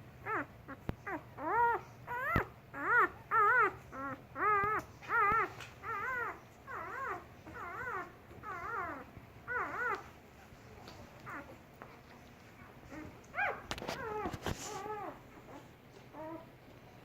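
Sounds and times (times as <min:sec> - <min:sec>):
puppies whimpering: 0:00.2 - 0:11.6, 0:12.7 - 0:16.5.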